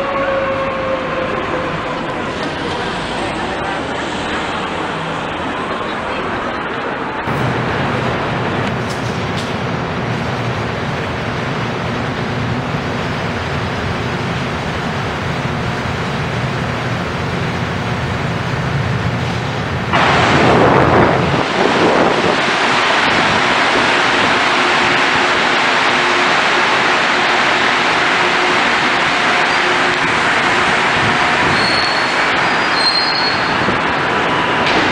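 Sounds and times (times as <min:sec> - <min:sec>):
train rushing past: 0:00.0 - 0:34.9.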